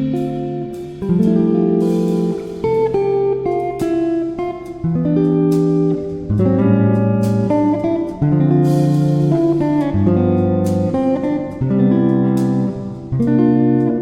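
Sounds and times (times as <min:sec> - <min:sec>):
guitar background music: 0:00.0 - 0:14.0.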